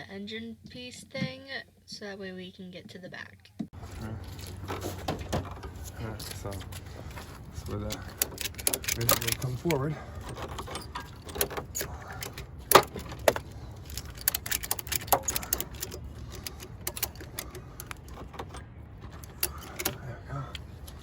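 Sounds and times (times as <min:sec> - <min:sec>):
hand tools clanking on metal: 0:03.8 - 0:21.0.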